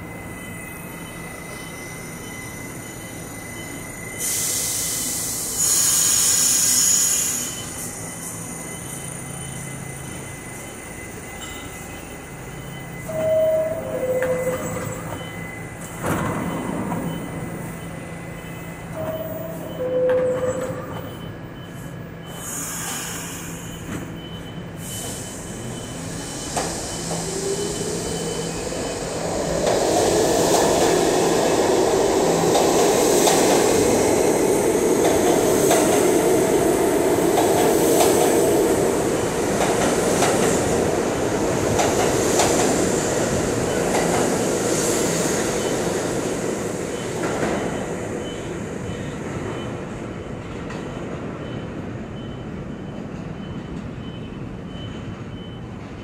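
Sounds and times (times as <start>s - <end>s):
subway doors shutting: 0.0s - 56.0s
train rumble and wheel squeal: 0.0s - 56.0s.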